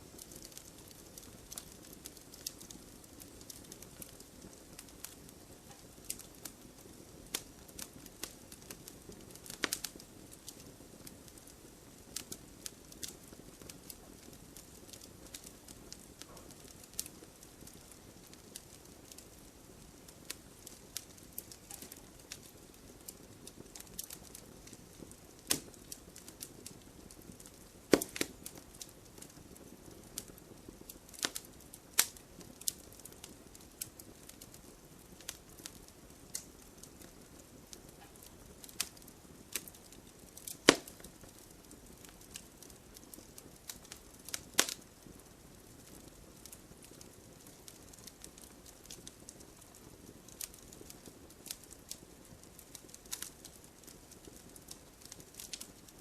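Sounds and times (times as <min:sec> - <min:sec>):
faint low hiss: 0:00.0 - 0:56.0
wood fire crackling and popping: 0:00.0 - 0:56.0.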